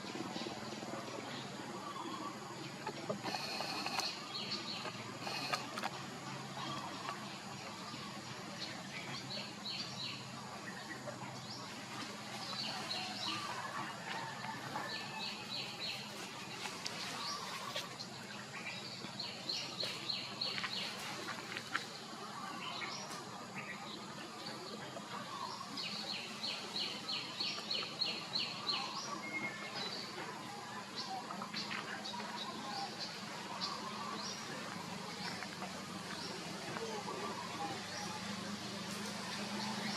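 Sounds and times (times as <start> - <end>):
birds calling: 0.0 - 39.9
steady background hiss: 0.0 - 39.9.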